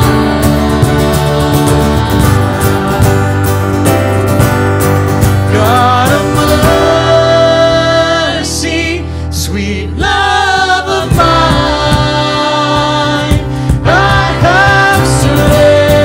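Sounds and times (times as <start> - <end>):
worship singing: 0.0 - 3.9, 5.5 - 16.0
sustained instrumental accompaniment: 0.0 - 16.0.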